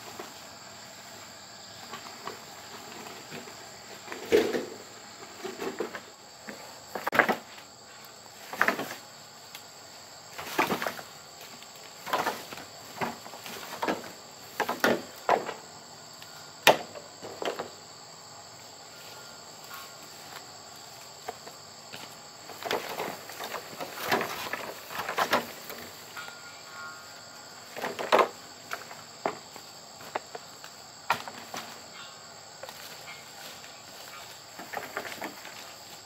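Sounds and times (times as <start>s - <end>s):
insects droning: 0.0s - 36.0s
irregular thuds and scrapes: 1.8s - 9.1s, 10.3s - 15.7s, 19.0s - 36.0s.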